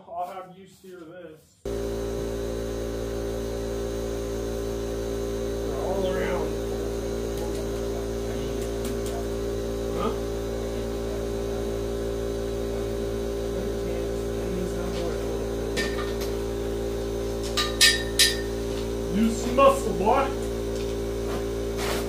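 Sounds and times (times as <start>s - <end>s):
steady hum: 1.6s - 22.0s.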